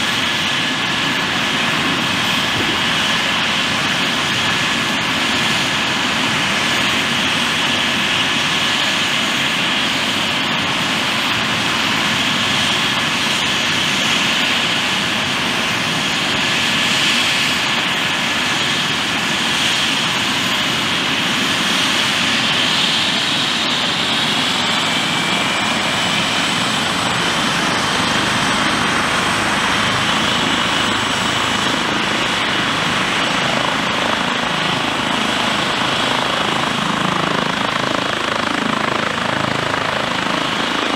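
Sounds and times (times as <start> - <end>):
helicopter turbines whining: 0.0 - 40.9.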